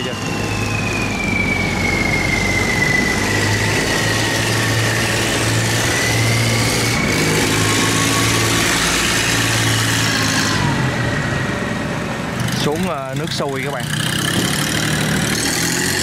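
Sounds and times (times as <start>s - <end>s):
boat engine drone with whine: 0.0s - 16.0s.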